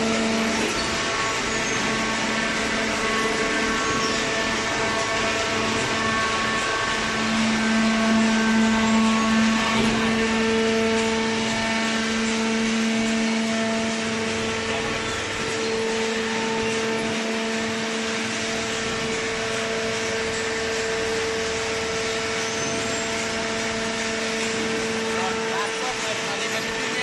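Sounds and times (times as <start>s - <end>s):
hydraulic baler humming and whining: 0.0s - 27.0s.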